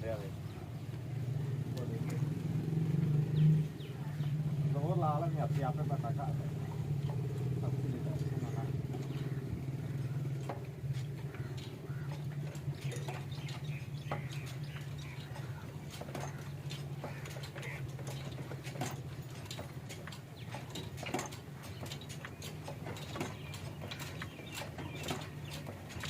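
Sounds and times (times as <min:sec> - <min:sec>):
diesel engine humming: 0:00.0 - 0:26.0
sharp clicks and ticks: 0:01.7 - 0:26.0.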